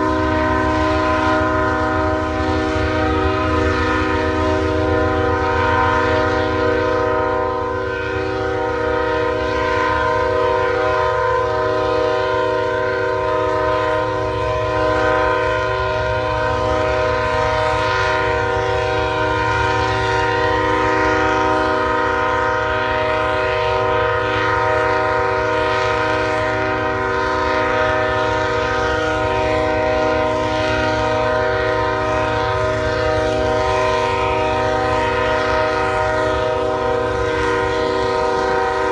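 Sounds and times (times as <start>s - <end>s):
train horn blast: 0.0s - 38.9s.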